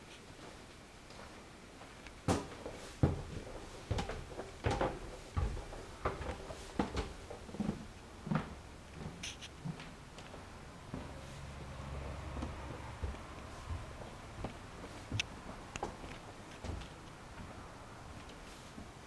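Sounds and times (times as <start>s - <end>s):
footsteps on wooden stairs: 1.1s - 19.0s.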